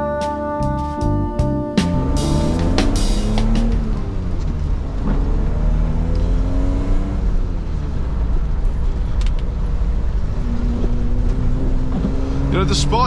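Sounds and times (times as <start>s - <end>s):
low road rumble: 0.0s - 13.0s
car engine accelerating: 0.9s - 13.0s.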